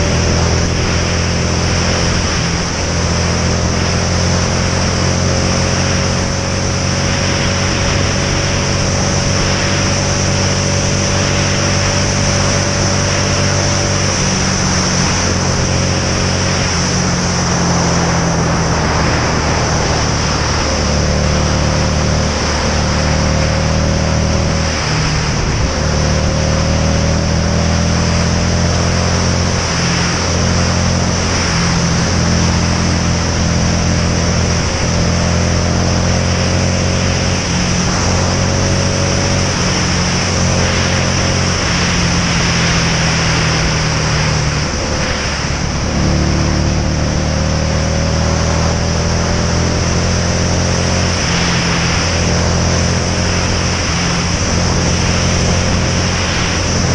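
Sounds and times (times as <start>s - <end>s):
motorcycle engine running: 0.0s - 56.9s
wind noise: 0.0s - 56.9s.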